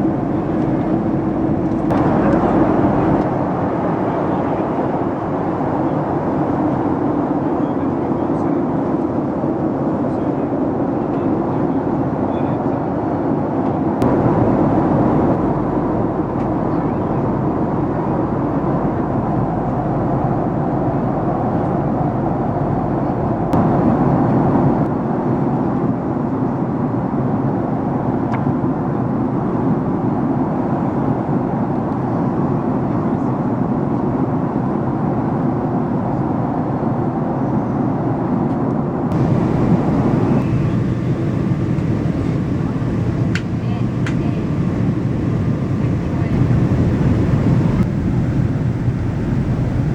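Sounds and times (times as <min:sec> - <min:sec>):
airliner cabin engine rumble: 0:00.0 - 0:12.7, 0:13.9 - 0:49.9.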